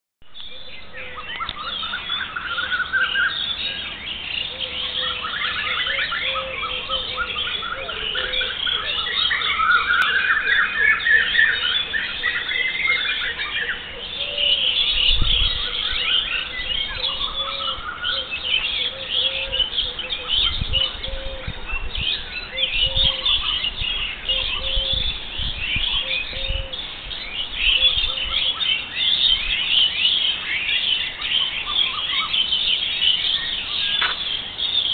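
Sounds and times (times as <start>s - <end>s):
birds chirping and trilling: 0.3s - 34.9s.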